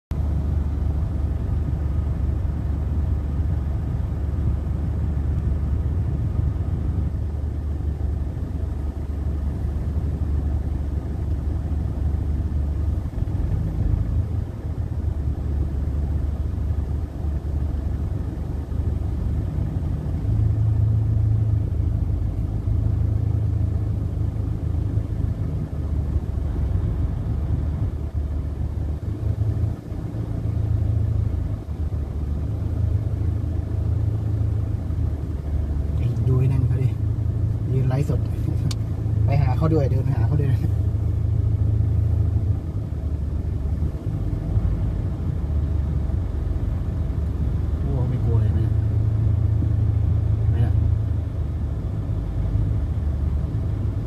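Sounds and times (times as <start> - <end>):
car engine idling: 0.1 - 54.0.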